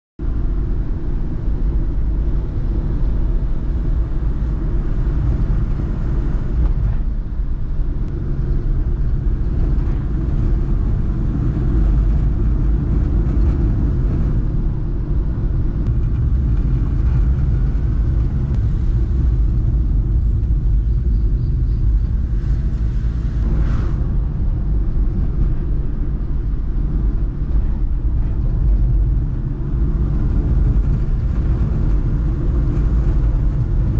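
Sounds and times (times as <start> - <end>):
loud low rumble: 0.2 - 33.9.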